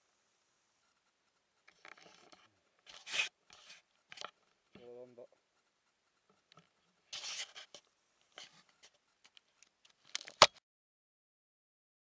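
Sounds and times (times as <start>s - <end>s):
handling rustling and scraping: 0.8s - 10.6s.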